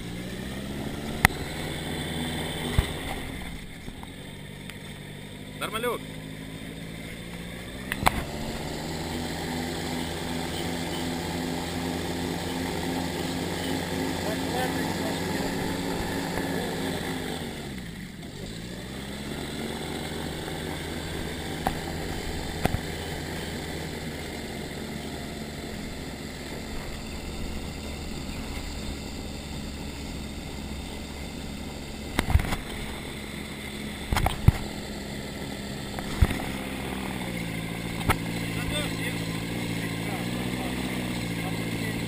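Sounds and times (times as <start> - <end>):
engine and propeller running: 0.0 - 42.0.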